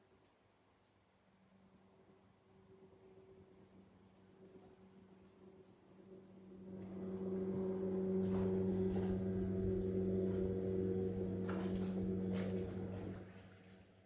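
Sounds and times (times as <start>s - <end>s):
low motor hum: 1.7s - 14.0s.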